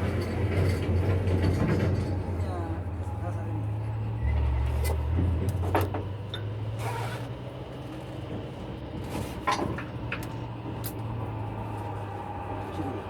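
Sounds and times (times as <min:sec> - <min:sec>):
heavy equipment engine humming: 0:00.0 - 0:13.0.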